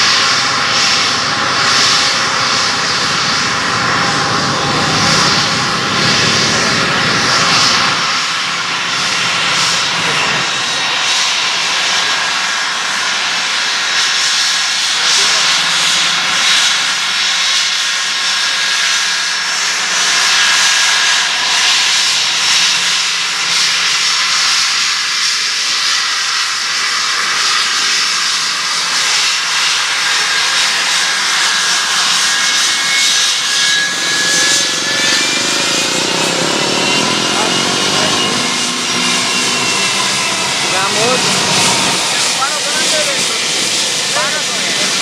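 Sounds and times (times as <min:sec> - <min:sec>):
engine whine: 0:00.0 - 0:45.0
jet engines roaring: 0:00.0 - 0:45.0.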